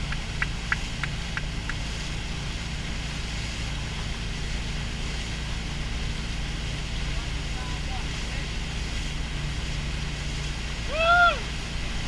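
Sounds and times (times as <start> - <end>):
boat engine drone: 0.0 - 12.0
churning wake water: 0.0 - 12.0.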